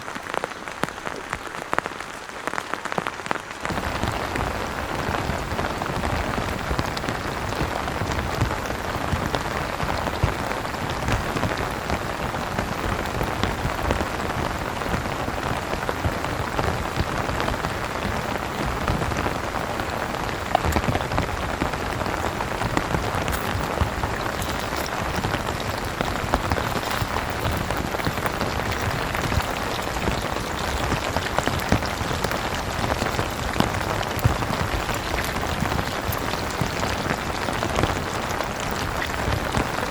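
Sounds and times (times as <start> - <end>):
heavy rain on tent awning: 0.0 - 39.9.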